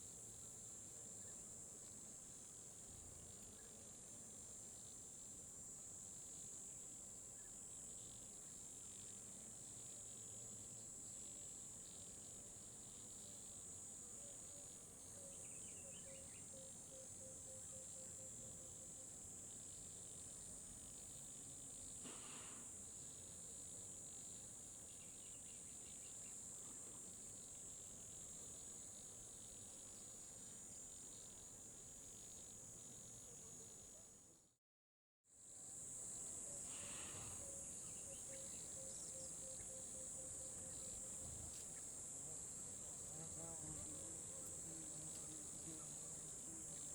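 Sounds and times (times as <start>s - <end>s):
crickets chirping: 0.0s - 34.3s, 35.4s - 46.9s.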